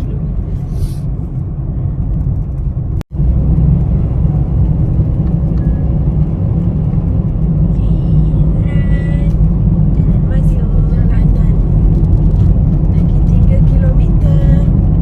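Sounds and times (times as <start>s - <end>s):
car driving heard from inside: 0.0s - 15.0s.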